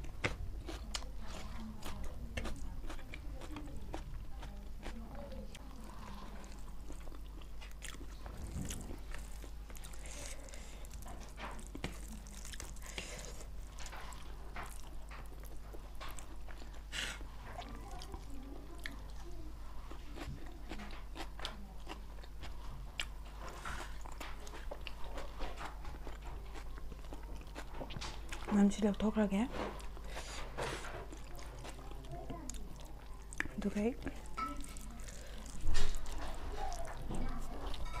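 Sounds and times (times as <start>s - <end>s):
person chewing food: 0.0s - 29.0s, 29.8s - 38.0s.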